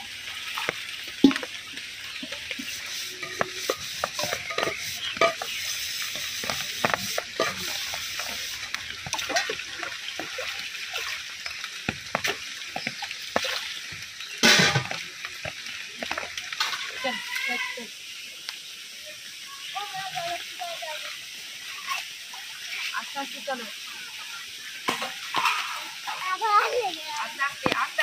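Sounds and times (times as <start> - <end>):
metal pot rinsed in water: 0.0 - 18.0, 19.8 - 28.0
rain hissing onto a pond: 0.0 - 28.0.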